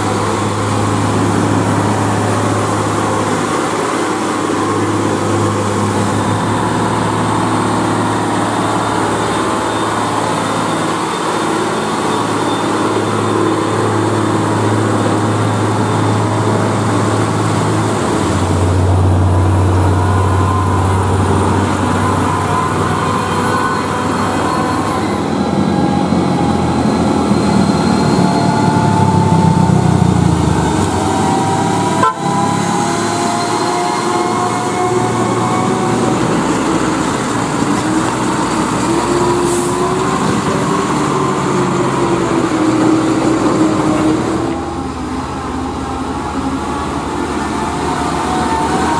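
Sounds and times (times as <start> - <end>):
diesel truck engine passing: 0.0 - 48.9.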